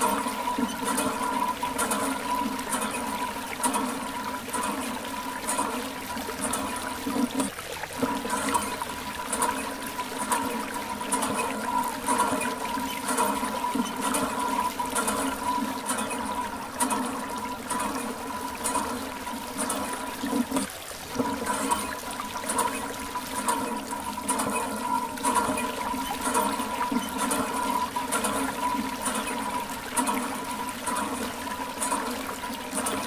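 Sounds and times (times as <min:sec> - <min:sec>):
water splashing from hose: 0:00.0 - 0:33.0.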